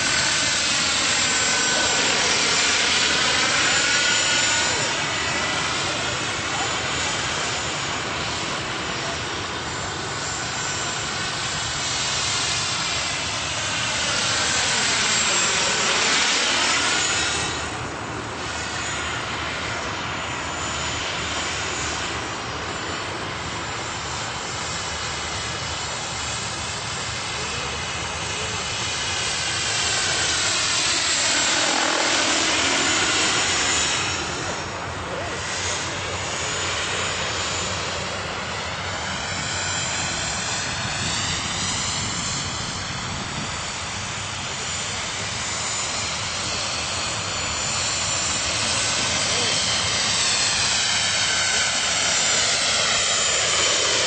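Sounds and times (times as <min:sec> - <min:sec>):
model helicopter turbine and rotor: 0:00.0 - 0:54.0.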